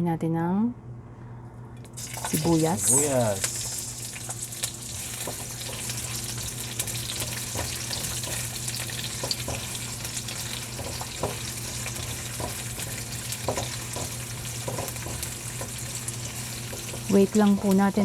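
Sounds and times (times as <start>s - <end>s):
onions sizzling in hot oil: 2.0s - 18.0s.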